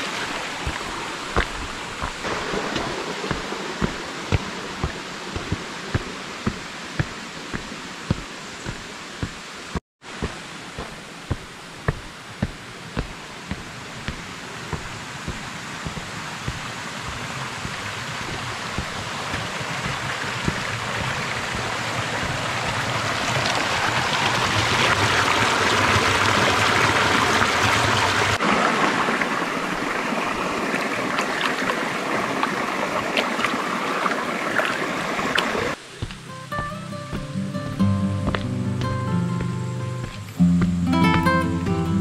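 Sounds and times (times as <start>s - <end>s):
stream rushing over rocks: 0.0s - 41.5s.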